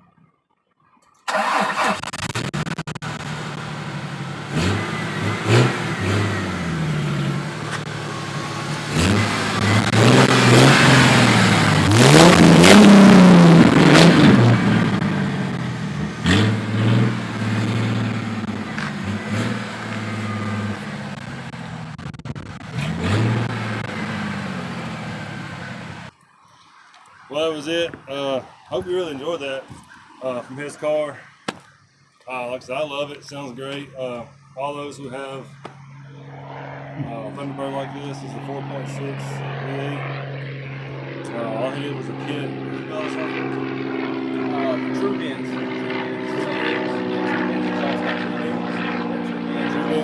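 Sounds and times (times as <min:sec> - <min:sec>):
car engine idling and revving: 0:01.3 - 0:26.1, 0:33.3 - 0:50.0.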